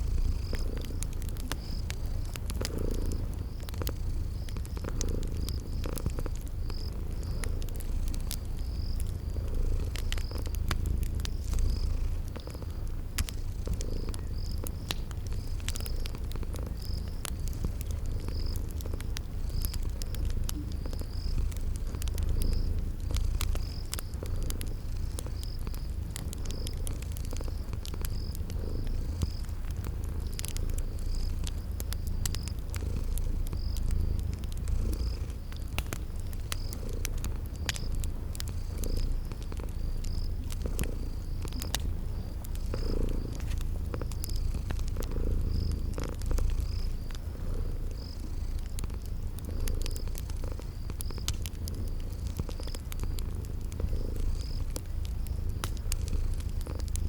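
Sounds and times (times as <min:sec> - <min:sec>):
cat purring: 0:00.0 - 0:57.0
crickets chirping: 0:00.0 - 0:57.0
fire crackling: 0:00.0 - 0:57.0.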